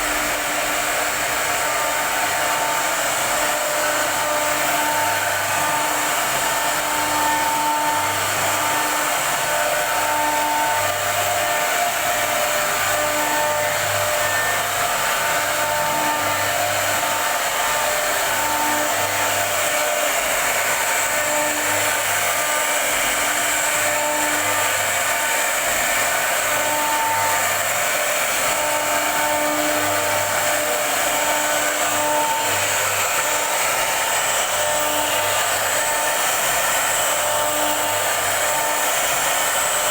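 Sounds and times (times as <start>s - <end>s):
router running with high hiss: 0.0s - 39.9s.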